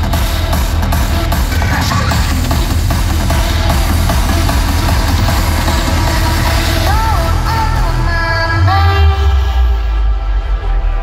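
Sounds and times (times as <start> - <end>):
hardstyle music with synth chords: 0.0 - 11.0.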